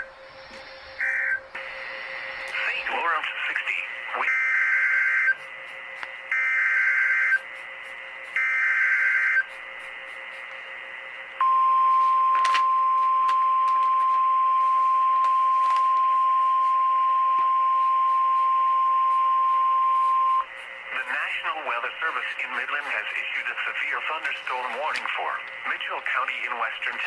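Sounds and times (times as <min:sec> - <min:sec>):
steady alarm tone: 0:00.0 - 0:26.3.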